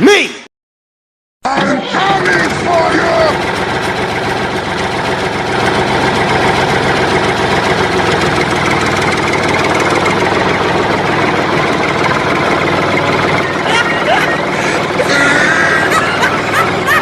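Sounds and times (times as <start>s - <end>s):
tractor diesel engine knocking: 1.8s - 17.0s.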